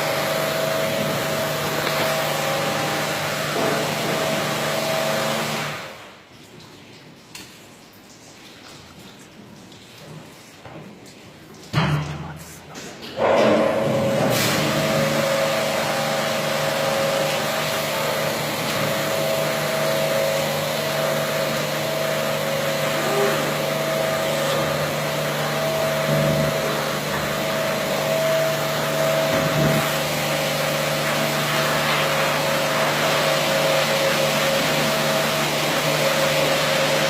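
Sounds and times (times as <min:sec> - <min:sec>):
washing machine motor drone: 0:00.0 - 0:06.2, 0:13.2 - 0:37.0.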